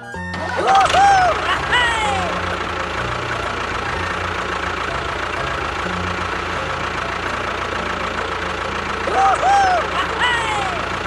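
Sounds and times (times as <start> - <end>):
engine running with low rumble: 0.2 - 11.0.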